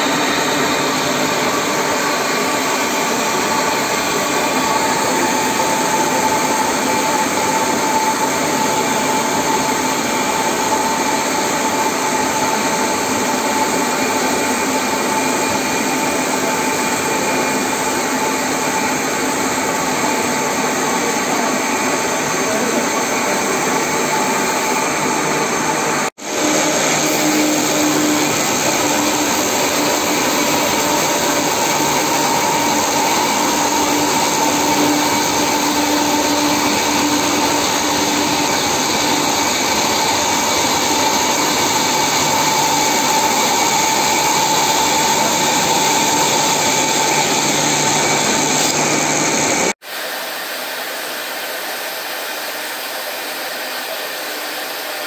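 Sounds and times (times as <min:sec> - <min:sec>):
foam-cutting machine whirring: 0:00.0 - 0:55.0.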